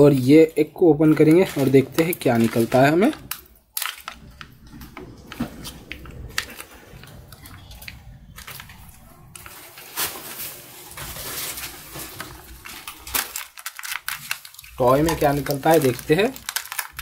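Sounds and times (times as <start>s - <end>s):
plastic wrapper crinkling and tearing: 0.0s - 17.0s.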